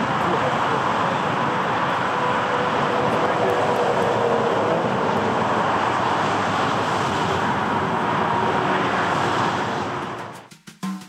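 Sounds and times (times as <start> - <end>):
jet engine roar: 0.0 - 10.5.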